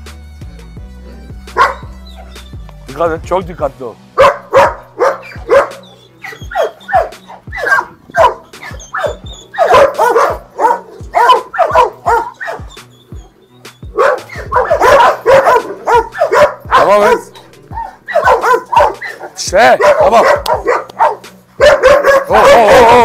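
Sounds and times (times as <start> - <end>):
dog barking: 1.5 - 2.3, 4.2 - 23.0.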